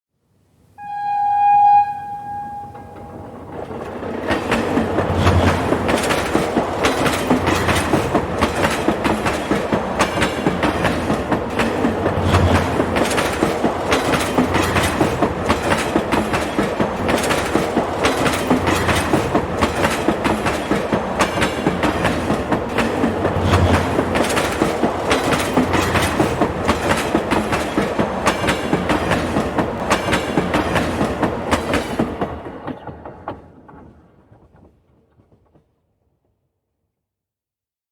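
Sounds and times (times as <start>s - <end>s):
train wheels clattering on rails: 2.3s - 35.8s.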